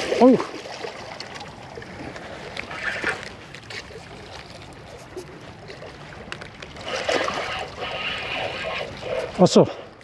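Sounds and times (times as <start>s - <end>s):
water lapping on rocky shore: 0.0s - 10.0s.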